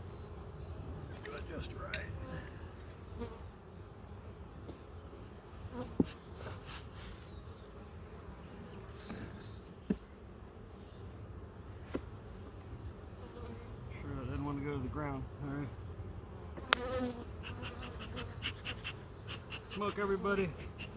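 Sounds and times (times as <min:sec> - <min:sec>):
honeybees buzzing: 0:00.0 - 0:20.9.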